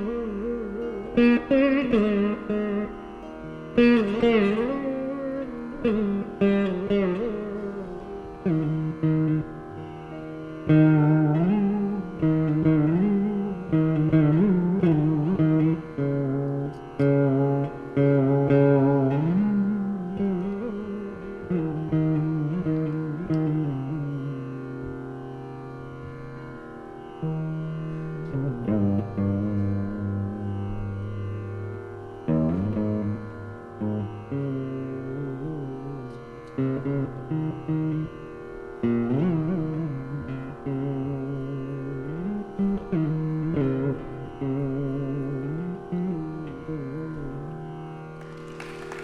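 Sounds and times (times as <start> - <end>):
veena plucked melody: 0.0 - 49.0.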